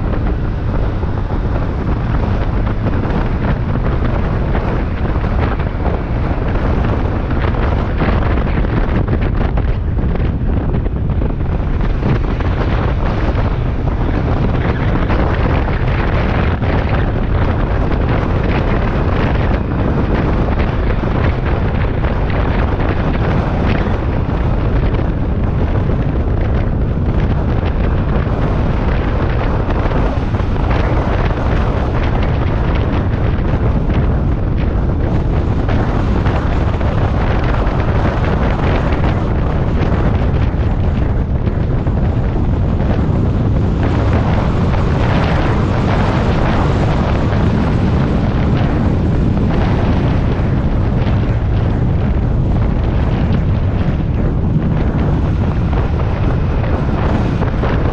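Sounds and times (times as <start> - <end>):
moving vehicle running noise: 0.0 - 57.9
wind buffeting the microphone: 0.0 - 57.9.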